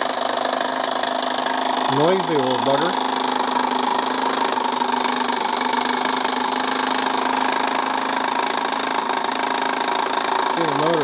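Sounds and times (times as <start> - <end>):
small steam engine beating: 0.0 - 11.0.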